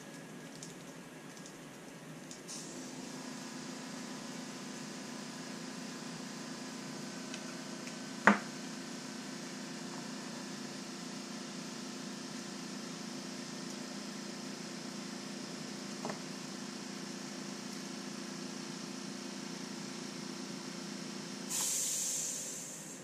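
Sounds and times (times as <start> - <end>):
room hum: 0.0 - 23.0.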